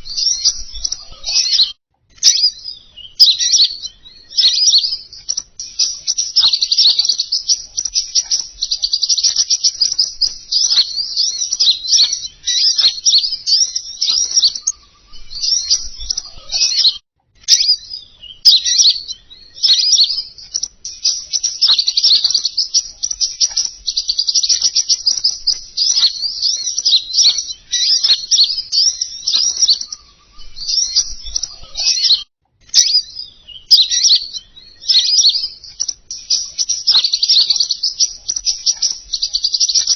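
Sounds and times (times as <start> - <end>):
bird chattering twitters: 0.0 - 39.9.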